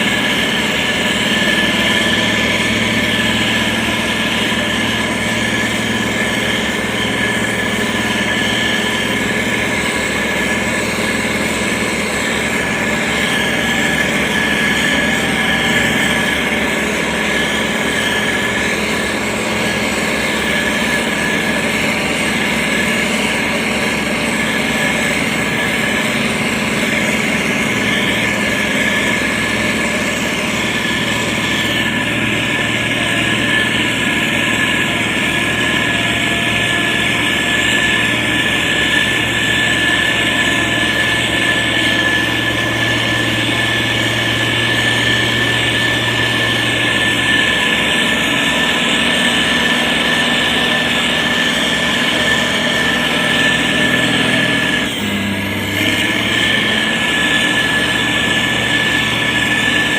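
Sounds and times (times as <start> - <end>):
constant whine: 0.0 - 59.9
heavy machine engine running: 0.0 - 59.9.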